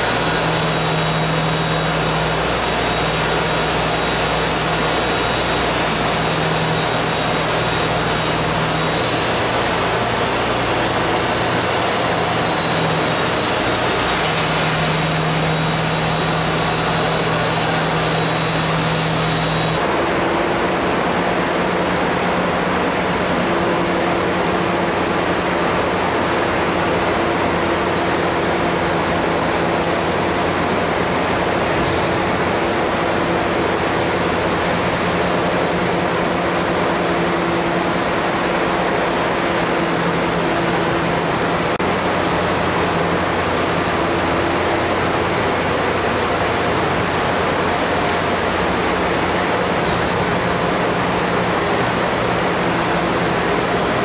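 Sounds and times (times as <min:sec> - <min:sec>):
faint high whine: 0:00.0 - 0:54.0
machinery drone and hiss: 0:00.0 - 0:54.0.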